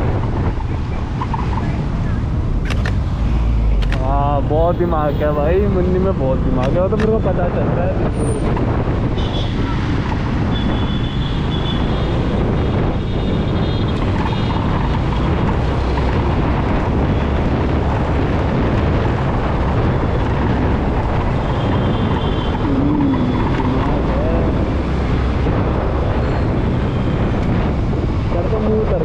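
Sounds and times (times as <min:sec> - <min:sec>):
scooter engine and road noise: 0:00.0 - 0:29.0
wind buffeting microphone: 0:00.0 - 0:29.0.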